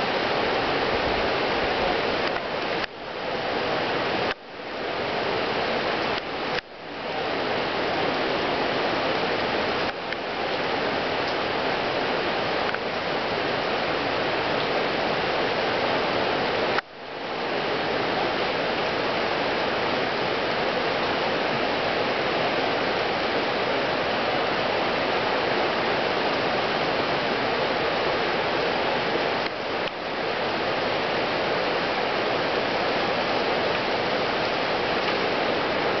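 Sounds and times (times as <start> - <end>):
river current rushing: 0.0 - 36.0.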